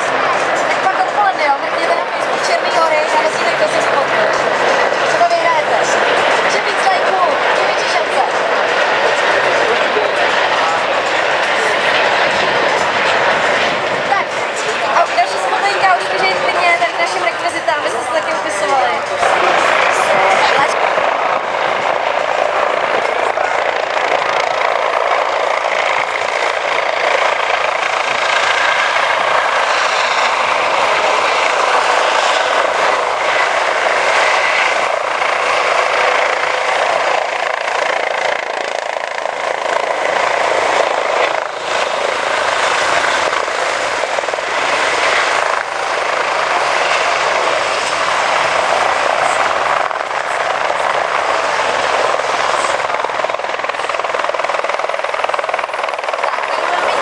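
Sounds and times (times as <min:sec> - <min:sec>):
helicopter rotor and turbine noise: 0:00.0 - 0:57.0.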